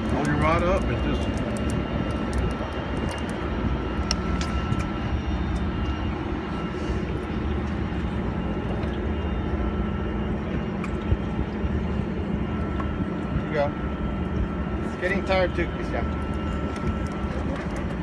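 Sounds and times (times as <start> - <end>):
boat engines idling: 0.0 - 18.0.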